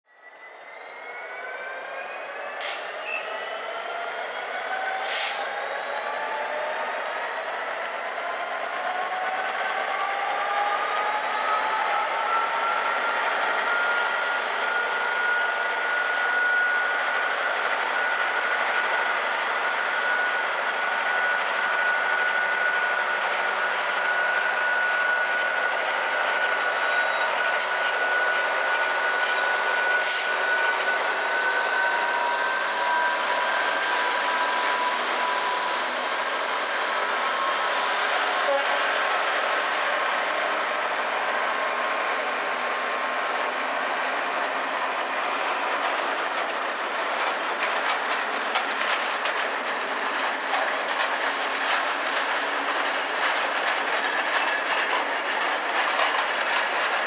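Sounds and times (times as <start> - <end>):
diesel locomotive pulling away: 0.1 - 57.0.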